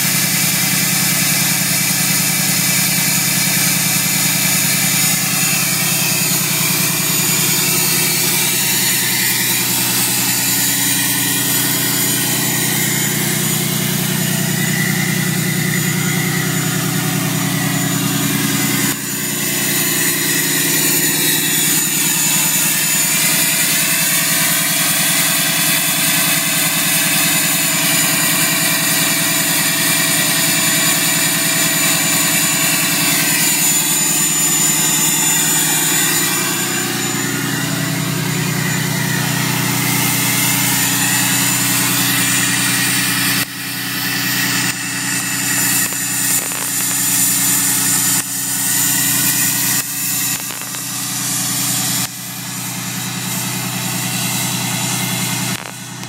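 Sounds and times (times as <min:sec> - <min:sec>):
diesel engine idling: 0:00.0 - 0:56.0
high steady whistle: 0:02.2 - 0:28.2, 0:29.0 - 0:55.5.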